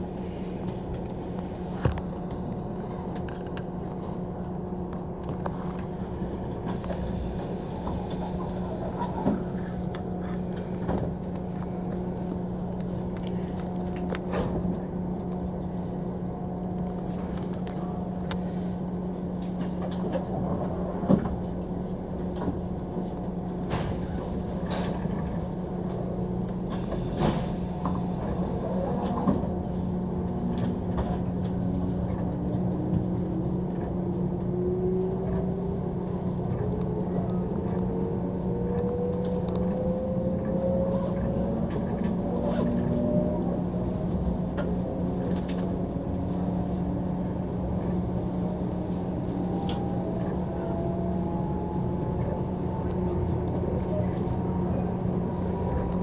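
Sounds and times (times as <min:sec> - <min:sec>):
electric train running hum: 0:00.0 - 0:56.0.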